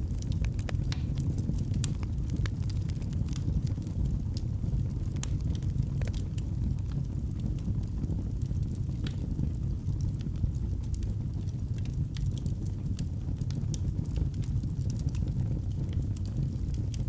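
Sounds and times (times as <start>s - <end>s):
fire crackles and pops: 0.0s - 17.0s
fire rumbling: 0.0s - 17.0s.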